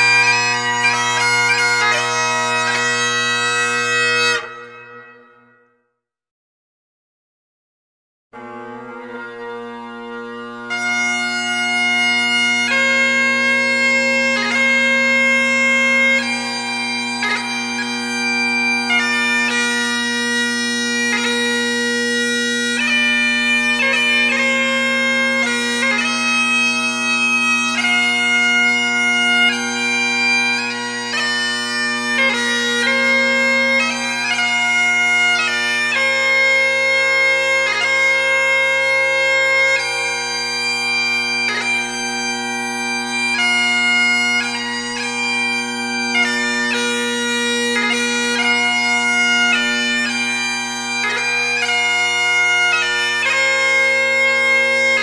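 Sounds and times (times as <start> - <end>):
bagpipes playing a tune: 0.0 - 5.6, 8.4 - 55.0.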